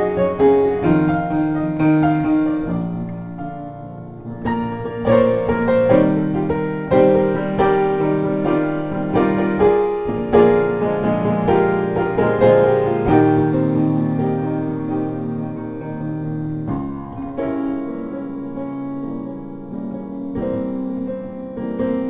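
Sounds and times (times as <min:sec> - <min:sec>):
piano chords and melody: 0:00.0 - 0:22.0.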